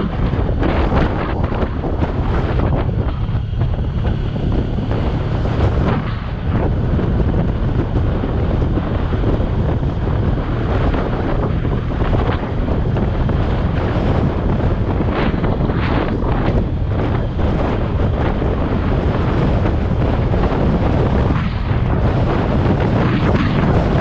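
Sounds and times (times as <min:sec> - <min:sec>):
motorcycle engine humming: 0:00.0 - 0:24.0
wind rushing over microphone: 0:00.0 - 0:24.0.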